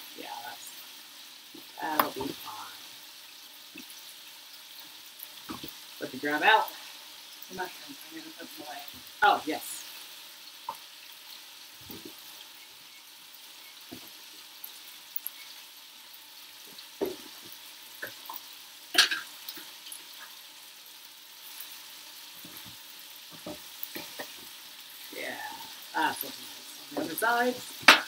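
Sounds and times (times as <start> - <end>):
chicken sizzling in a skillet: 0.0 - 28.0.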